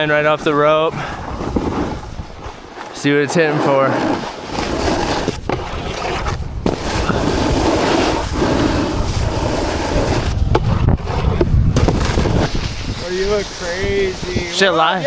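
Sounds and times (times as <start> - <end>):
snowboard scraping over snow: 0.0 - 15.0
wind on microphone: 0.8 - 2.7, 4.5 - 15.0.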